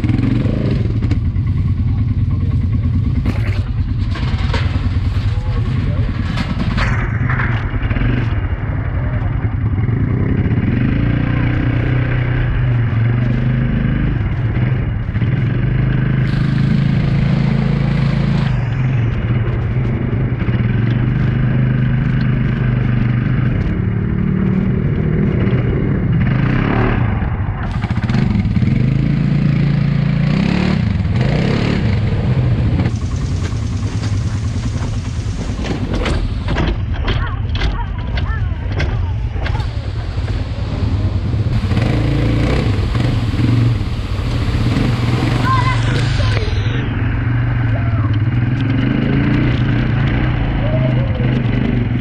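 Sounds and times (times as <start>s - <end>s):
quad bike engine revving: 0.0s - 52.0s.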